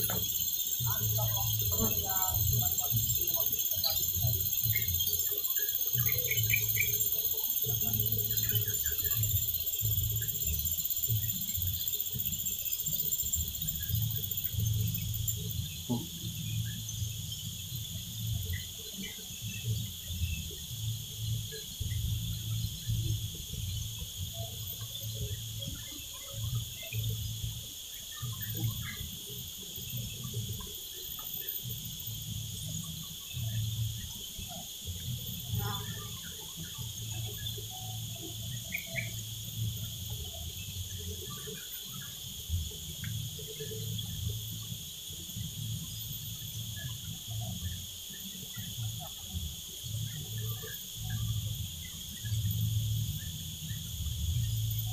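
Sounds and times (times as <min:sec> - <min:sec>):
chorus of insects: 0:00.0 - 0:54.9.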